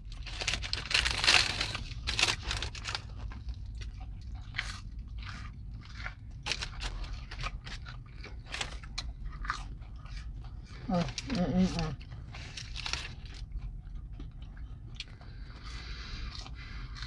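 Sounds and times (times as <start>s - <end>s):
crunching and chewing: 0.0s - 17.0s
low steady hum: 0.0s - 17.0s.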